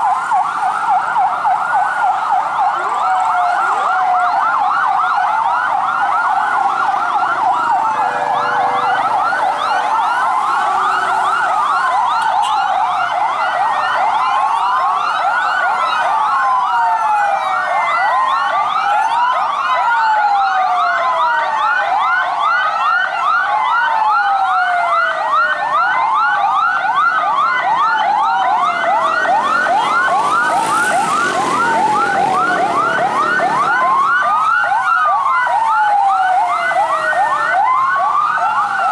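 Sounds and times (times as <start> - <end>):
fire truck sirens: 0.0 - 38.9.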